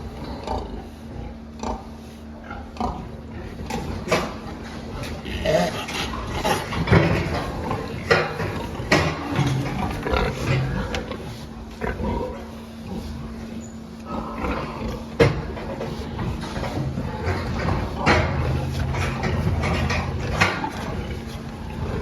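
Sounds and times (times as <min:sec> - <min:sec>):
faint steady hum: 0:00.0 - 0:22.0
pigs grunting and squealing: 0:00.0 - 0:22.0.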